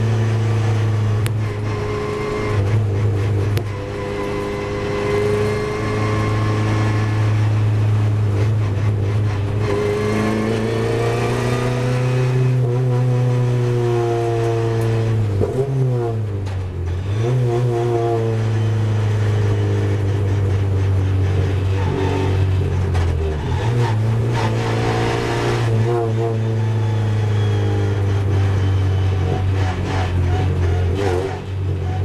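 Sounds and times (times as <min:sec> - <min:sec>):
race car engine at low revs: 0:00.0 - 0:32.0.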